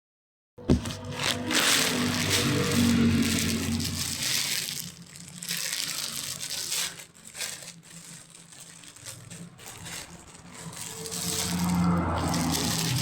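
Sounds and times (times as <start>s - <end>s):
packaging crinkling and rustling: 0.6s - 13.0s.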